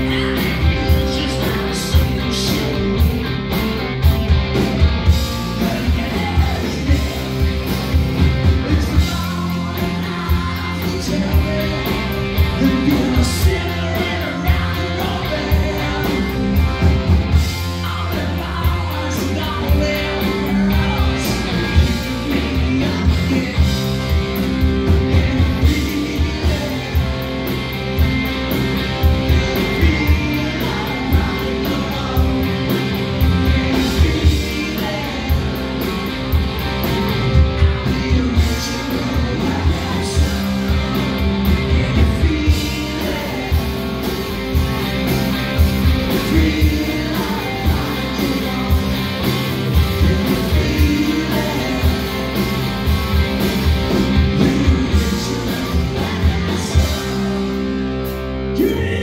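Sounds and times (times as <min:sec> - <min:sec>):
bass guitar: 0:00.0 - 0:59.0
drums: 0:00.0 - 0:59.0
electric guitars: 0:00.0 - 0:59.0
live rock band: 0:00.0 - 0:59.0.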